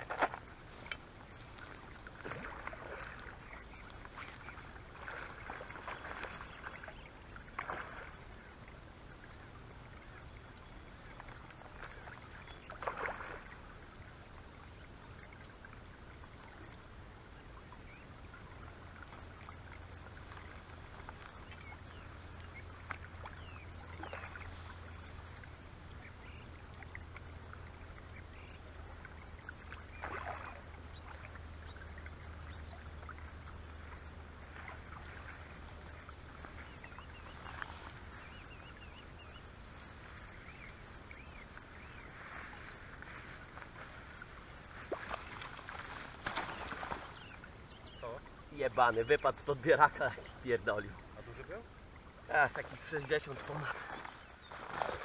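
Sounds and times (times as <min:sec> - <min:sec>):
water splashing: 0:00.0 - 0:55.0.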